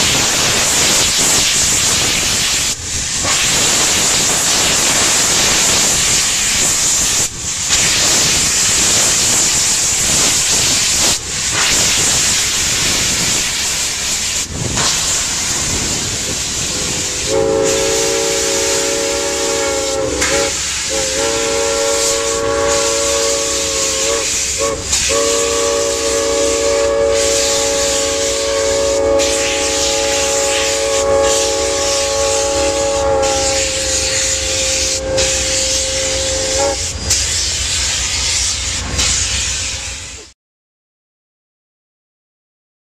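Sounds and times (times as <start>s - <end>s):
steam hissing: 0.0s - 40.3s.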